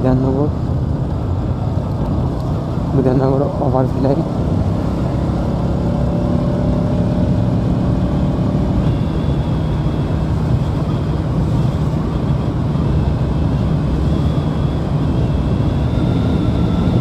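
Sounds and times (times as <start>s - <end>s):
wind rush over microphone: 0.0s - 17.0s
motorcycle engine running: 1.1s - 17.0s.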